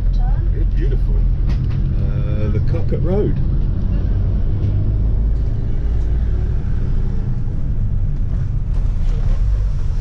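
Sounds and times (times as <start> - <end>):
bus engine rumble: 0.0 - 10.0
road noise: 0.0 - 10.0.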